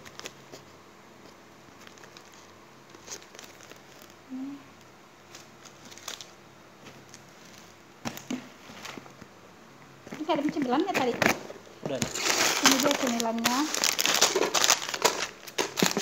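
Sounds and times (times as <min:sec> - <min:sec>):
plastic packets crinkling: 0:00.0 - 0:00.6, 0:01.7 - 0:04.2, 0:05.2 - 0:09.1, 0:10.1 - 0:16.0.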